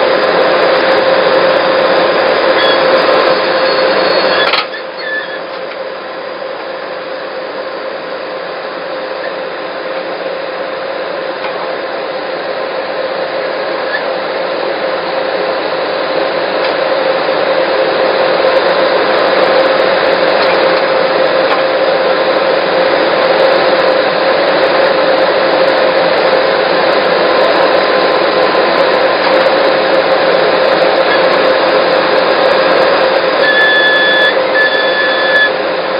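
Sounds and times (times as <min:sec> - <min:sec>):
skid steer loader engine drone: 0:00.0 - 0:35.9.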